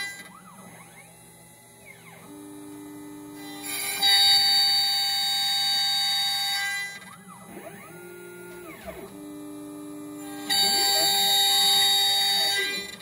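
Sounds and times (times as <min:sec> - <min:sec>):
router spindle high whine: 0:00.0 - 0:13.0.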